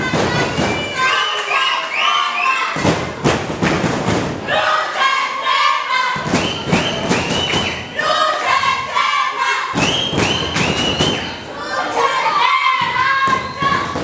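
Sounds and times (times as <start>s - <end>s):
crowd shouting and chanting: 0.0s - 14.0s.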